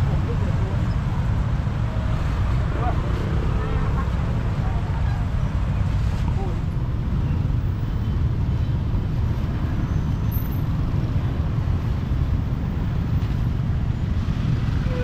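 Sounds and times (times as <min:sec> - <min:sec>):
motorbikes and cars passing: 0:00.0 - 0:15.0.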